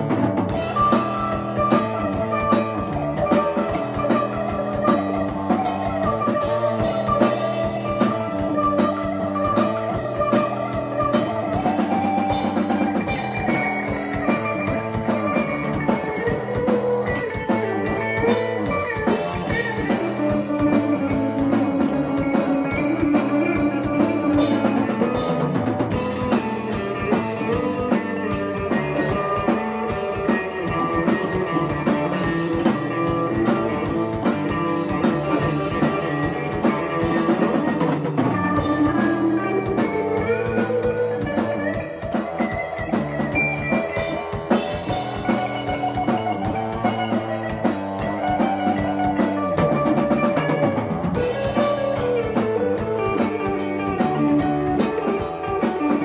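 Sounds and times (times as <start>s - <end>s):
drum kit steady beat: 0.0s - 56.0s
electric guitar bending notes: 0.0s - 56.0s.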